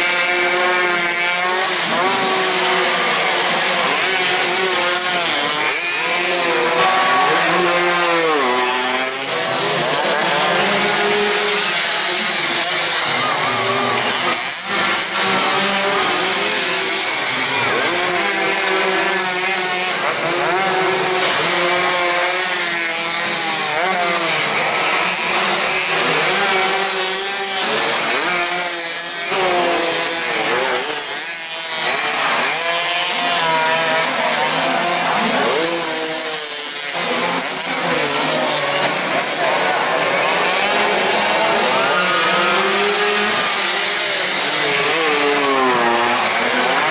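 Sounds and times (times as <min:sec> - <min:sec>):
racing motorcycles engines buzzing: 0:00.0 - 0:46.9.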